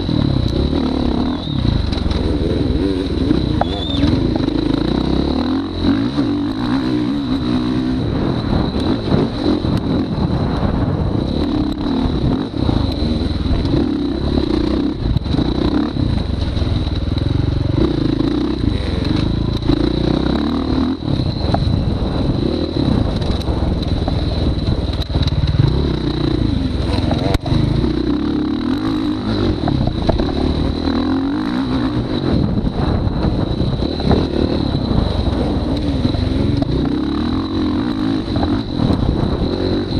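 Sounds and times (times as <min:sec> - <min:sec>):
dirt bike engine revving: 0:00.0 - 0:39.9
wind: 0:00.0 - 0:39.9.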